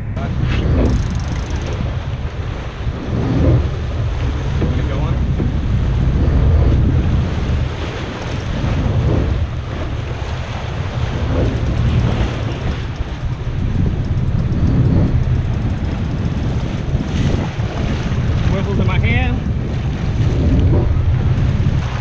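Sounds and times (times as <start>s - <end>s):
waves against boat hull: 0.0s - 22.0s
wind buffeting microphone: 0.0s - 22.0s.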